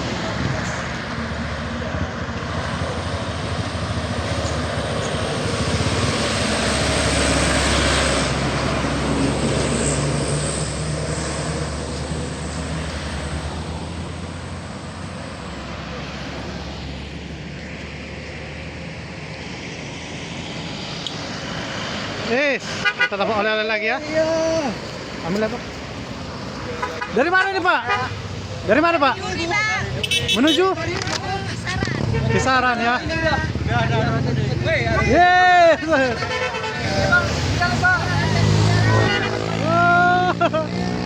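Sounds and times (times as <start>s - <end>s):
truck diesel engine passing: 0.0s - 41.0s.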